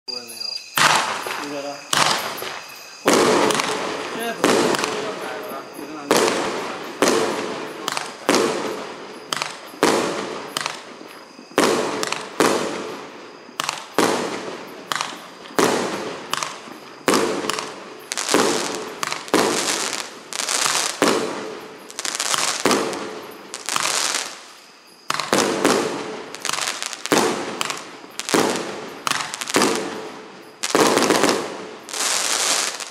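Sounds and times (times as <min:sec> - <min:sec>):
fireworks bangs: 0:00.1 - 0:32.9.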